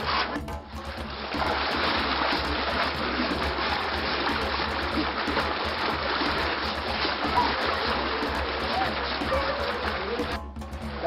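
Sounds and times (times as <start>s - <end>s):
water splashing from bucket: 0.0s - 11.0s
river water rushing: 1.0s - 10.4s.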